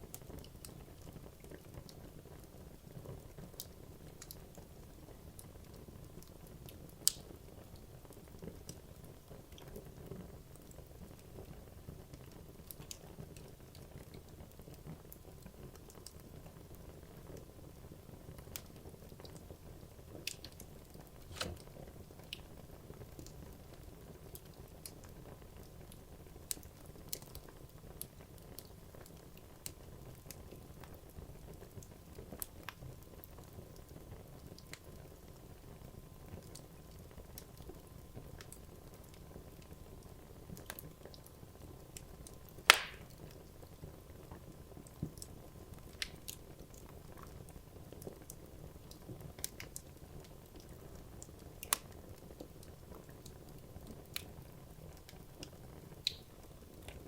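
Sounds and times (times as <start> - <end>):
wood crackling and popping: 3.1 - 8.8, 12.0 - 17.5, 18.3 - 35.0, 36.4 - 57.0.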